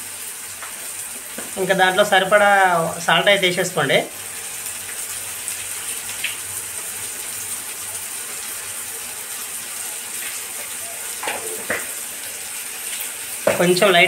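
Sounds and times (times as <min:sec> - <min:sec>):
vegetables sizzling in a pan: 0:00.0 - 0:14.0.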